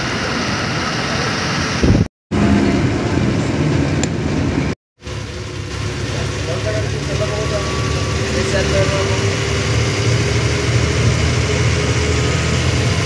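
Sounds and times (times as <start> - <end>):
bus engine running: 0.0 - 13.0
road noise: 0.0 - 13.0.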